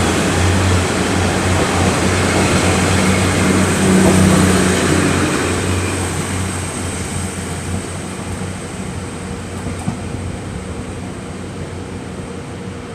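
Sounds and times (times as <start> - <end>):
diesel train engines droning: 0.0 - 12.9
train wheels rumbling: 0.0 - 12.9.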